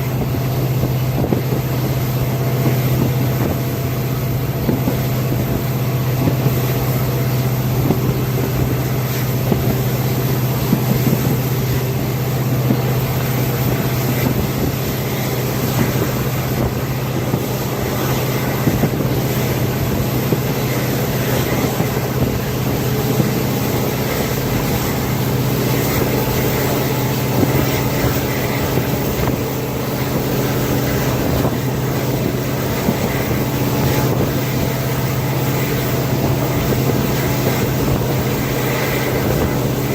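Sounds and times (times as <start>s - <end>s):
diesel locomotive engine droning: 0.0s - 39.9s
wind buffeting microphone: 0.0s - 39.9s.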